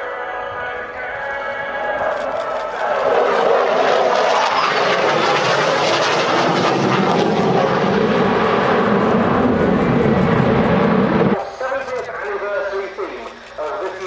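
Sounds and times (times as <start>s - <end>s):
aeroplane engines: 0.0s - 14.0s.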